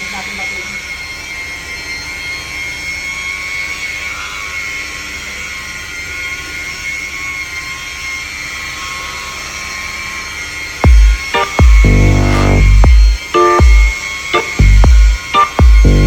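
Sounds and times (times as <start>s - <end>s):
electric polisher whining: 0.0s - 16.0s.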